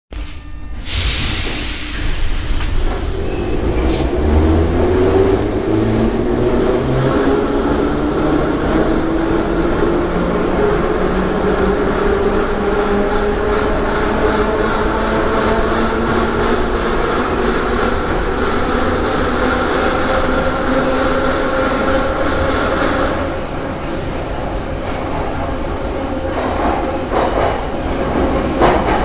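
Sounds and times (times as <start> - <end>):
train running rumble: 0.8 - 29.0.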